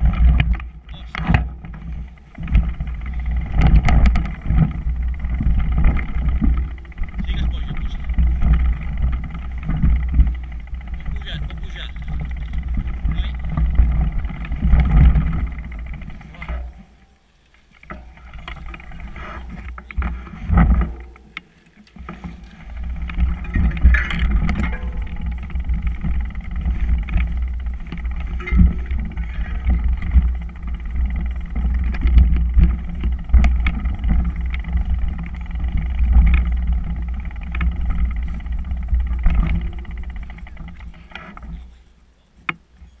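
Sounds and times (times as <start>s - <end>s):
wind noise on microphone: 0.0s - 16.9s, 22.0s - 41.8s
bike knocks and rattles: 0.0s - 43.0s.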